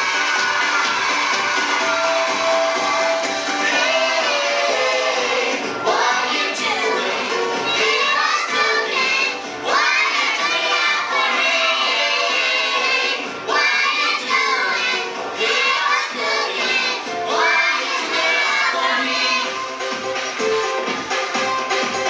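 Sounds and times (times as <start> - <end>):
children's choir singing: 0.0 - 19.8.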